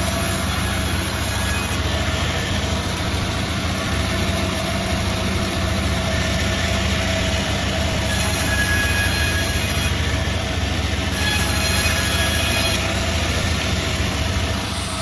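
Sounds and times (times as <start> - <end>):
sawmill humming: 0.0 - 15.0.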